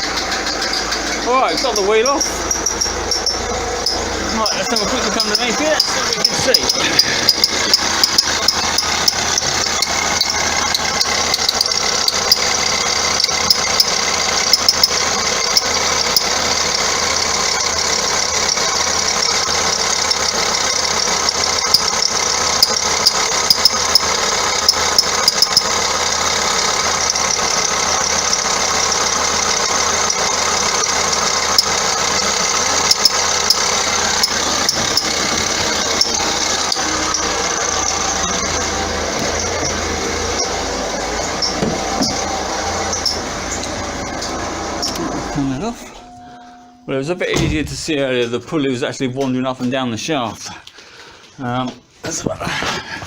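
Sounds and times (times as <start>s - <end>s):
drive belt squeaking: 0.0s - 46.6s
diesel engine running: 0.0s - 49.0s.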